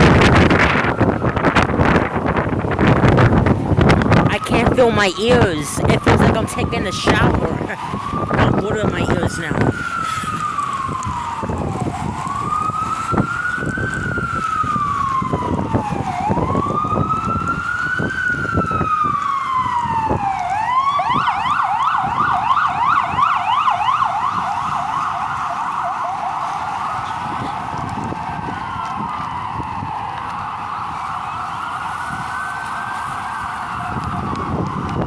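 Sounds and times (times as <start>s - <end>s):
emergency siren wailing and yelping: 0.0s - 35.0s
wind buffeting microphone: 0.0s - 35.0s.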